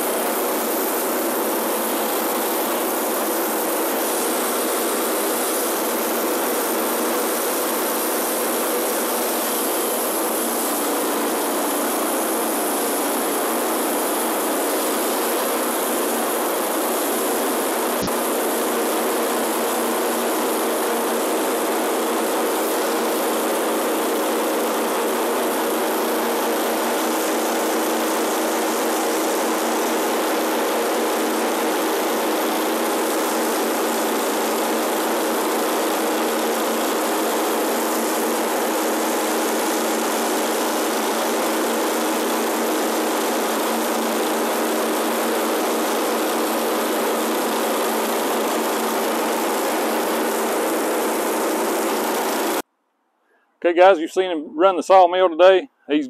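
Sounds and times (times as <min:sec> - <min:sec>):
bandsaw mill engine droning: 0:00.0 - 0:52.6.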